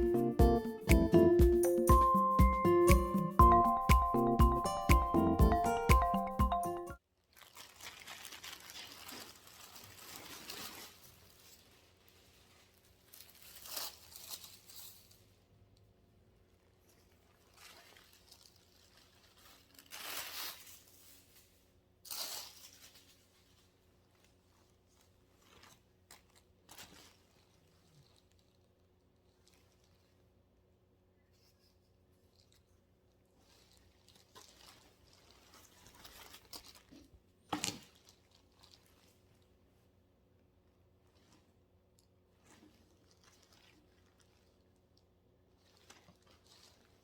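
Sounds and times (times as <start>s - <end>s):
rustling and crinkling: 7.2s - 47.0s.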